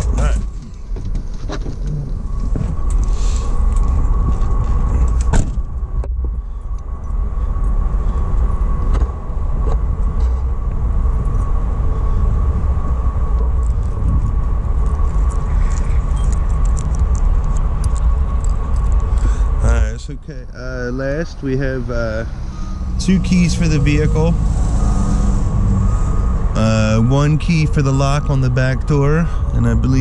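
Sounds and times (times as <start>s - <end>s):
van engine idling: 0.0s - 30.0s.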